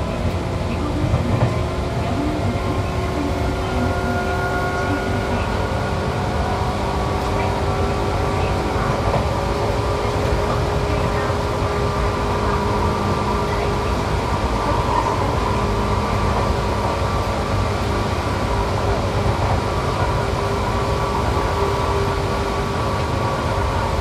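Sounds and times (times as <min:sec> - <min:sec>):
train motor and gear whine: 0:00.0 - 0:24.0
train wheels roaring on rail: 0:00.0 - 0:24.0.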